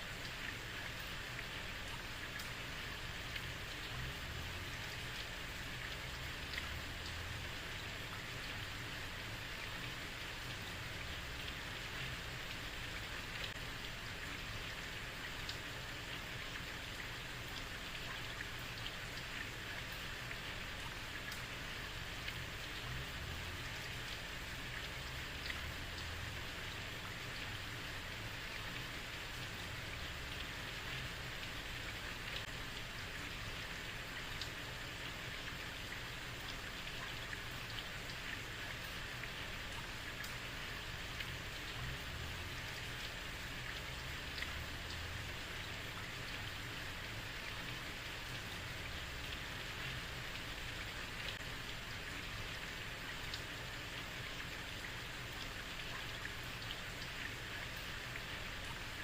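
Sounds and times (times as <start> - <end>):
heavy rain on a street: 0.0 - 59.0
water drips: 0.0 - 59.0.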